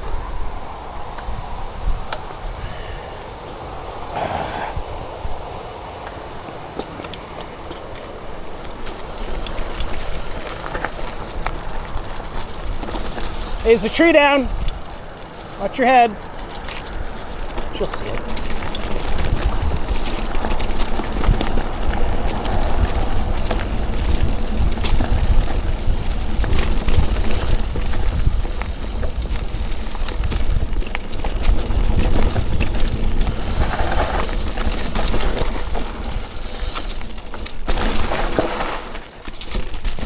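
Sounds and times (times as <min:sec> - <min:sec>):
bike clicks and rattles: 0:00.0 - 0:04.5, 0:05.4 - 0:40.0
wind rumble on microphone: 0:00.0 - 0:38.4
tyres rolling over dirt: 0:00.0 - 0:40.0.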